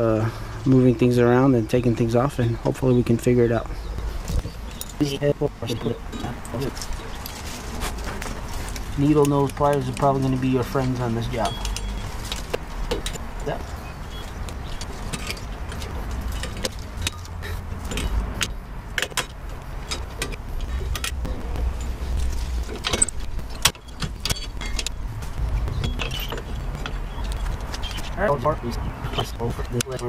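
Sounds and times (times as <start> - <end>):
steady low rumble: 0.8 - 29.9.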